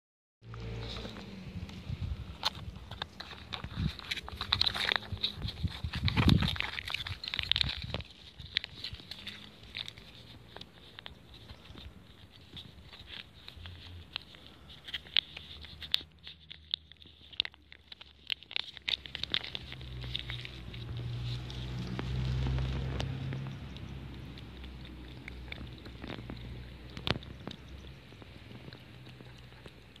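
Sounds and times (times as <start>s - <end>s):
cat eating wet food: 0.5s - 30.0s.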